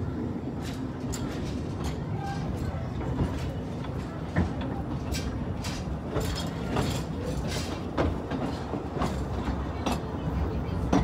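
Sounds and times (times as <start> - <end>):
train wheels clattering on track: 0.3 - 11.0.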